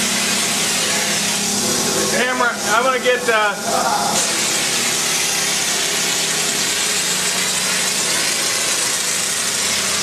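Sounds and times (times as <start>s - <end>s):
motor hum: 0.0s - 10.0s
spray gun hissing: 0.0s - 10.0s.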